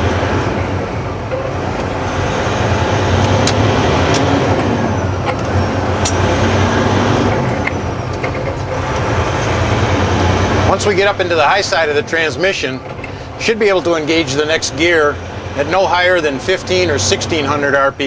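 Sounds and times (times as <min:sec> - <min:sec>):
truck diesel engine drone: 0:00.0 - 0:18.0.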